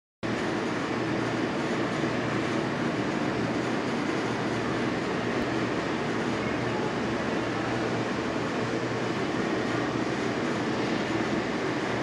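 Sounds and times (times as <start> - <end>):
steady rushing noise: 0.3 - 12.0.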